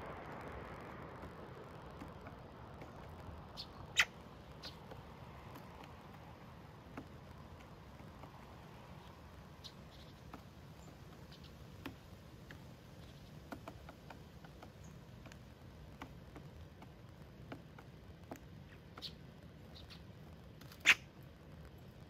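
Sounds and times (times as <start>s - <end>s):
birds pecking on feeder: 0.0s - 22.0s.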